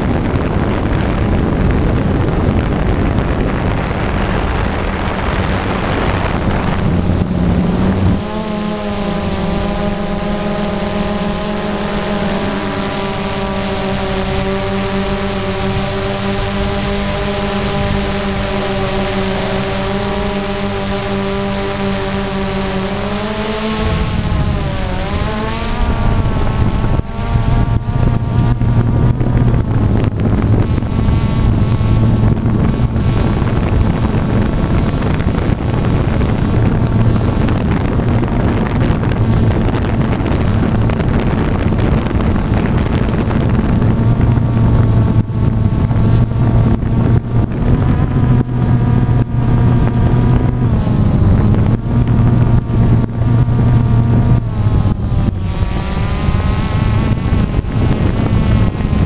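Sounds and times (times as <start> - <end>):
drone motors humming: 0.0 - 59.0
propeller whine: 0.0 - 59.0
wind buffeting microphone: 0.0 - 59.0.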